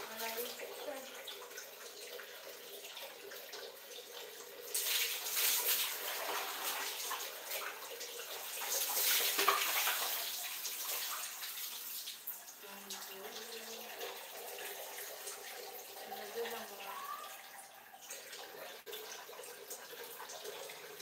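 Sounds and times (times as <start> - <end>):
water splashing onto tiled floor: 0.0 - 21.0.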